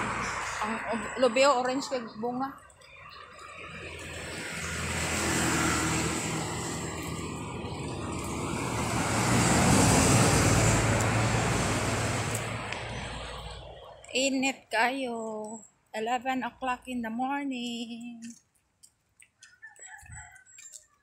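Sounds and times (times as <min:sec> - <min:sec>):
traffic passing on road: 0:00.0 - 0:16.9, 0:18.4 - 0:21.0.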